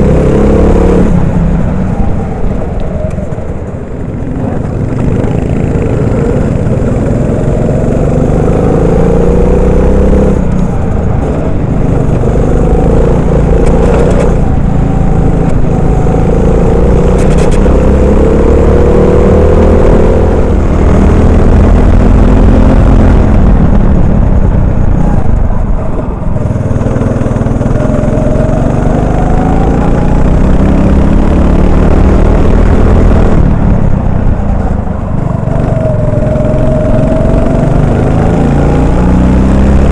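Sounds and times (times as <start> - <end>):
kart engine revving: 0.0 - 2.4, 3.1 - 39.9
wind and tyre noise: 0.0 - 39.9.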